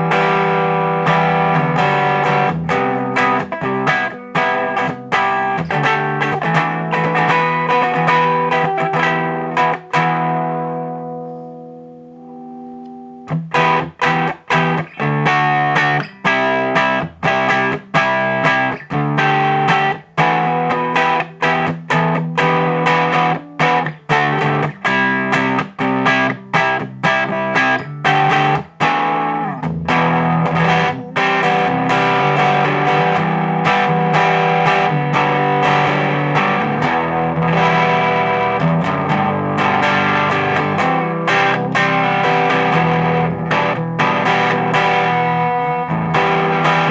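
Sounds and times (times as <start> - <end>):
distorted electric guitar chords: 0.0 - 46.9.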